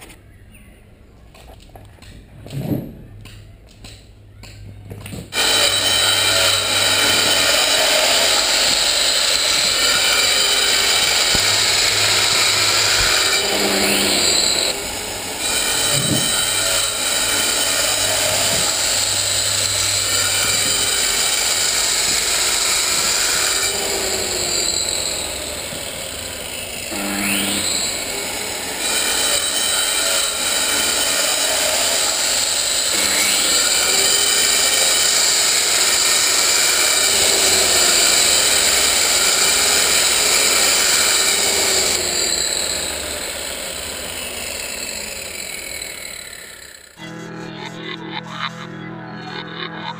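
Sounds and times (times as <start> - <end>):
angle grinder cutting stone: 5.3 - 47.6.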